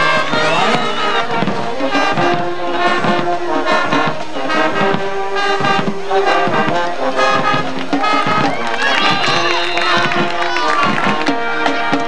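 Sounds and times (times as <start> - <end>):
brass band playing: 0.0 - 12.0
steady drum beat: 0.0 - 12.0.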